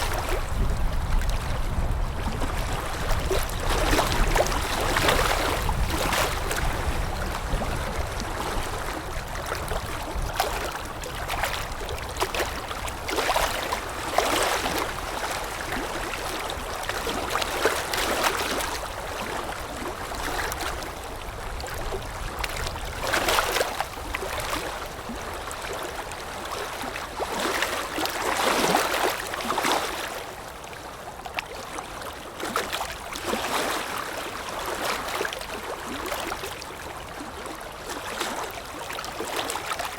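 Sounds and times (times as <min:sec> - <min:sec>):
water splashing and gurgling: 0:00.0 - 0:39.9
waves lapping against shore: 0:00.0 - 0:39.9.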